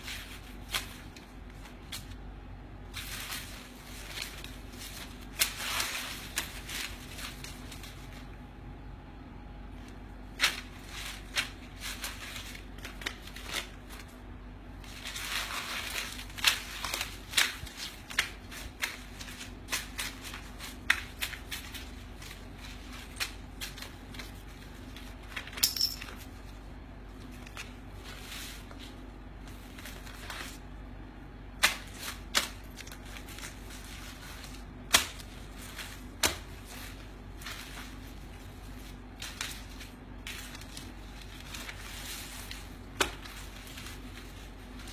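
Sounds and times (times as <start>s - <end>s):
banknotes rustling and snapping: 0.0s - 8.4s, 9.7s - 44.9s.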